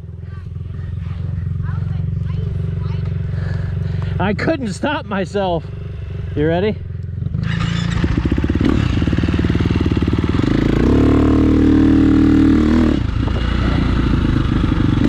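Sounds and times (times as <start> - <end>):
dirt bike engine revving: 0.6 - 15.0.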